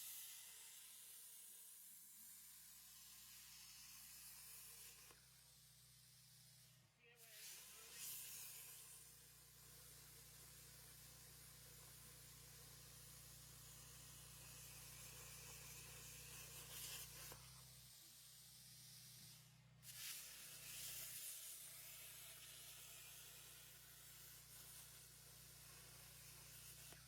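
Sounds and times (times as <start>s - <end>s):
plasma torch hissing: 0.0s - 27.0s.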